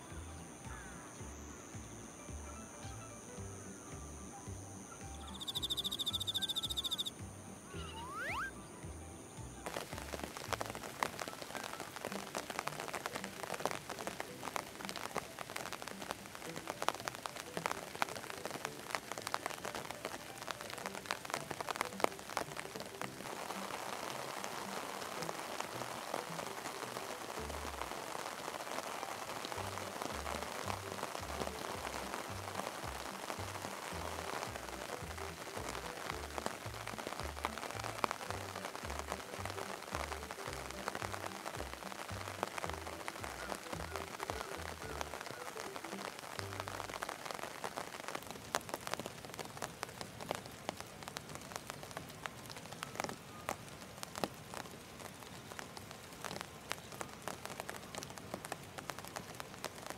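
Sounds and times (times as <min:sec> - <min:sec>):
dense crackling patter: 0:00.0 - 0:59.9
soft background music: 0:00.0 - 0:59.9.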